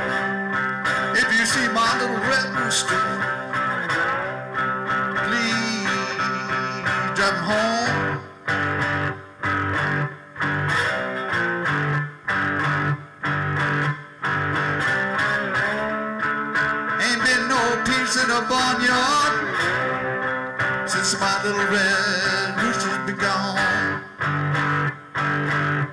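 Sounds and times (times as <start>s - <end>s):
cigar box guitar blues riff: 0.0s - 25.9s.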